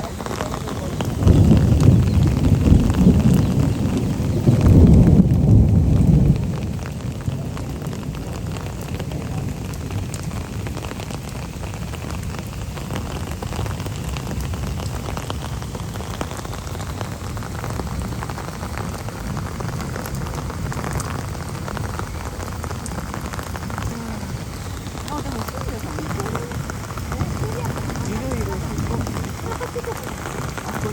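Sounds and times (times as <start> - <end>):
low rumble of thunder: 0.0 - 30.9
steady rain falling: 0.0 - 30.9.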